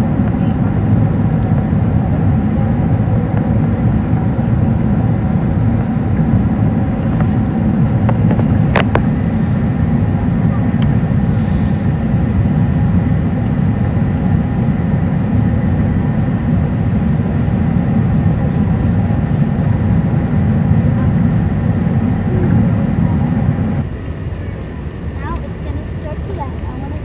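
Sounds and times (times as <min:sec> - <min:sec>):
aircraft cabin engine rumble: 0:00.0 - 0:27.0
faint steady whine: 0:00.0 - 0:27.0.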